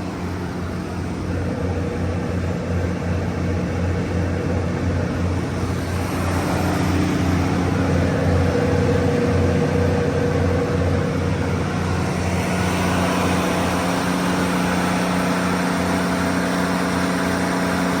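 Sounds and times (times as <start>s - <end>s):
diesel generator running: 0.0s - 18.0s.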